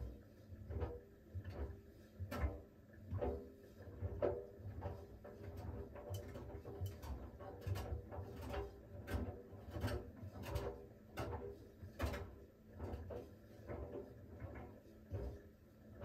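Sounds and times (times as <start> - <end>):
clothes tumbling in washing machine: 0.0 - 16.0
washing machine hum: 0.0 - 16.0.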